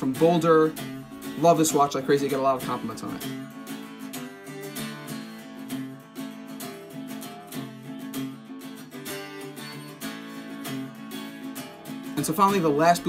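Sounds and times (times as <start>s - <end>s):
strummed guitar music: 0.0s - 13.0s.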